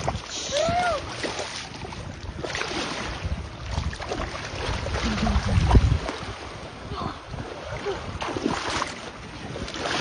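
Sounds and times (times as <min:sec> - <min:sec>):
water lapping at shoreline: 0:00.0 - 0:10.0
wind rumbling on microphone: 0:00.0 - 0:10.0.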